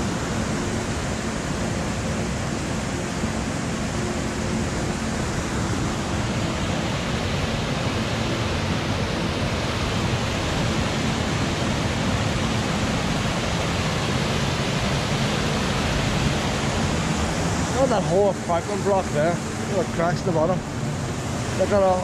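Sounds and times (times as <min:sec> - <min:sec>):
water rushing over a weir: 0:00.0 - 0:22.0.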